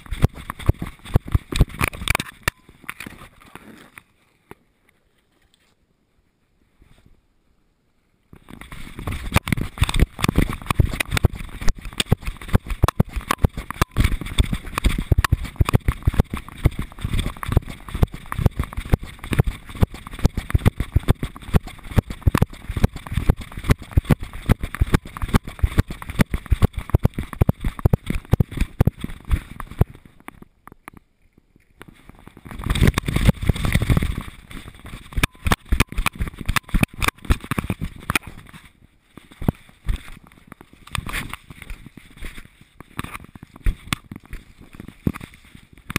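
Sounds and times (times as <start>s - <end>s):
camera knocking and rubbing: 0.0s - 4.0s, 8.4s - 31.0s, 31.8s - 45.9s.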